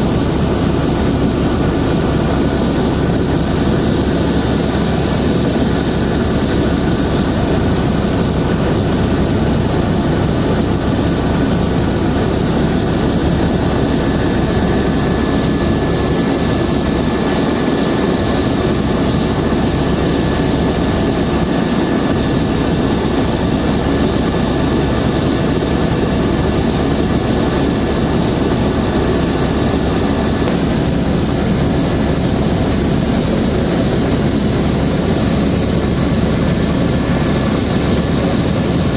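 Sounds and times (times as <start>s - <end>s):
helicopter rotors and engine drone: 0.0s - 38.9s.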